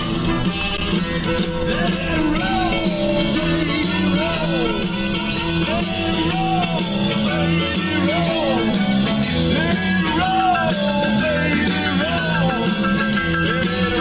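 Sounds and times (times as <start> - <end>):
rock music with guitar: 0.0 - 14.0
person singing: 1.7 - 14.0.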